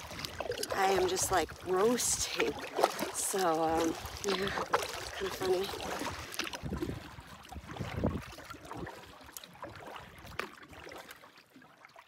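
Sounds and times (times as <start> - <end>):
paddle strokes in water: 0.0 - 12.0
water lapping at hull: 0.0 - 12.0.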